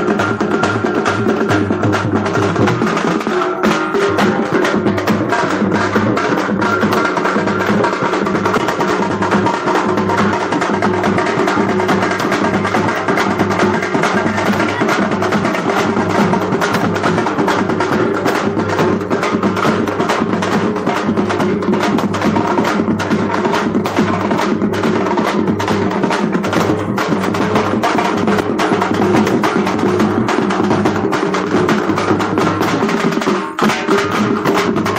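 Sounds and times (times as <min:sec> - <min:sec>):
loud fast drumming music: 0:00.0 - 0:34.9.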